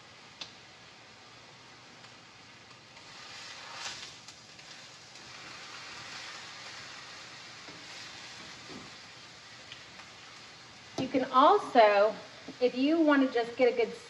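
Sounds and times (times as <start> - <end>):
chicken sizzling in skillet: 0.0 - 14.0.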